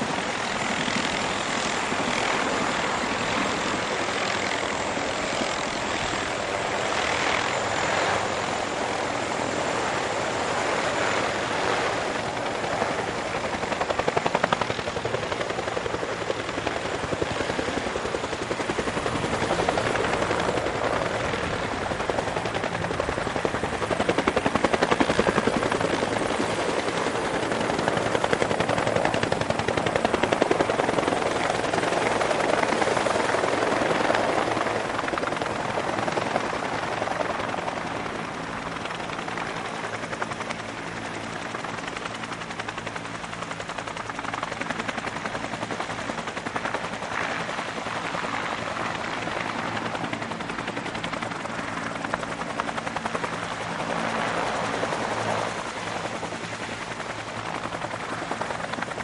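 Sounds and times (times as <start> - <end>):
helicopter rotors chopping: 0.0 - 59.0.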